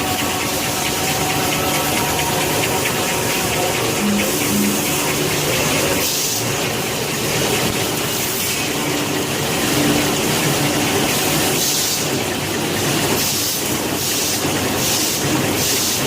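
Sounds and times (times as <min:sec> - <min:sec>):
cutting machine running: 0:00.0 - 0:14.7
machine hiss: 0:00.0 - 0:16.0.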